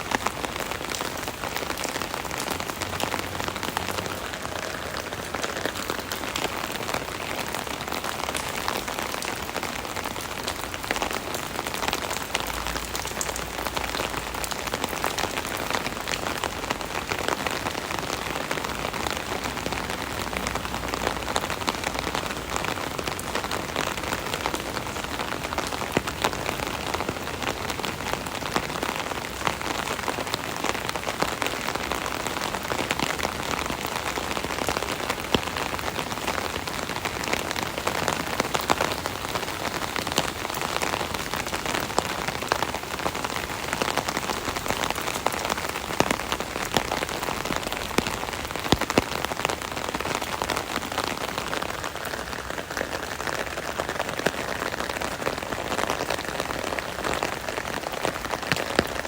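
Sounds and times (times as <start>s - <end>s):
rain drumming on umbrella: 0.0s - 59.0s.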